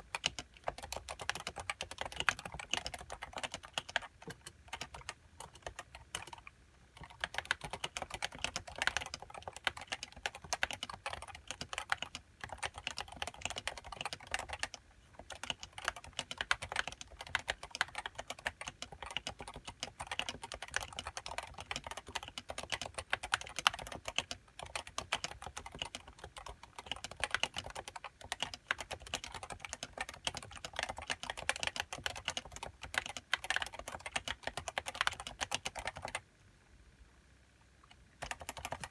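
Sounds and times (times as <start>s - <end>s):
keyboard typing: 0.0s - 36.2s, 37.9s - 38.9s.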